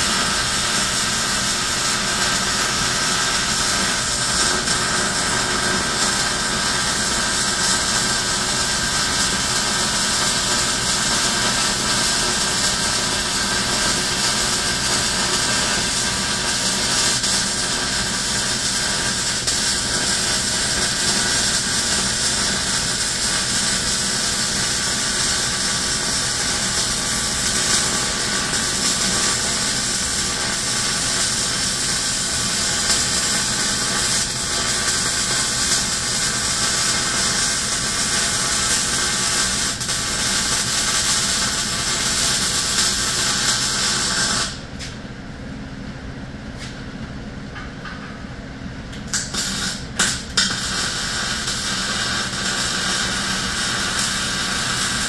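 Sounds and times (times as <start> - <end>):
welding on steel: 0.0 - 44.6, 49.0 - 55.0
ventilation fan running loudly: 0.0 - 55.0.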